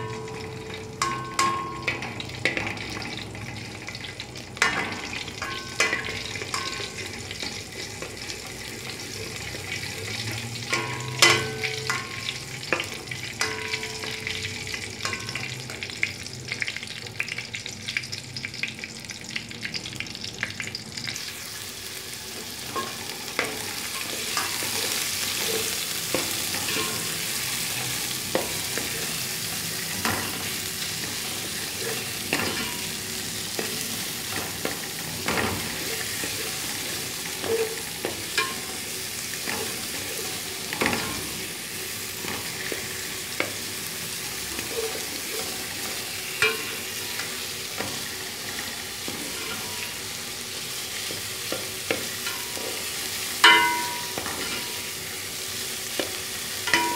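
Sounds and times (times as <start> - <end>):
onions sizzling in oil: 0.0 - 56.9.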